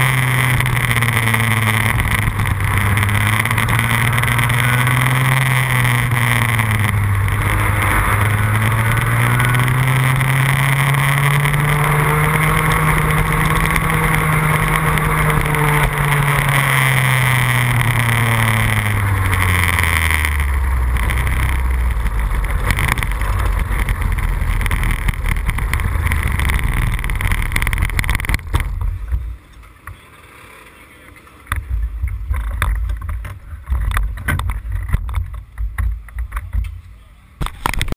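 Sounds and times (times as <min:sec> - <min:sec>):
go-kart engine revving: 0:00.0 - 0:35.6
go-kart engine idling: 0:00.0 - 0:37.8.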